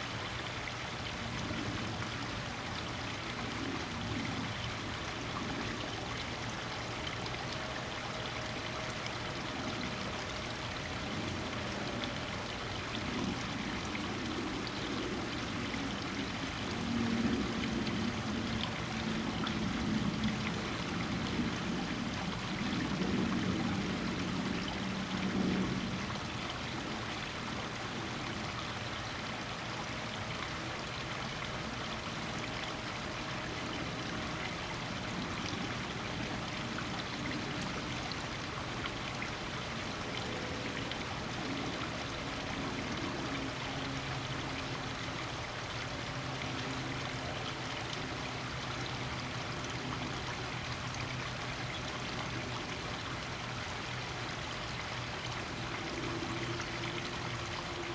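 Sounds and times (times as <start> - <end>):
waterfall splashing into pond: 0.0 - 57.9.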